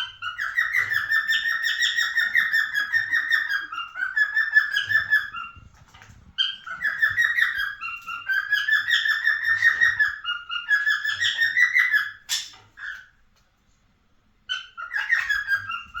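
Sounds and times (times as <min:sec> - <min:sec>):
cockatiel whistling song: 0:00.0 - 0:05.7, 0:06.4 - 0:13.1, 0:14.5 - 0:16.0.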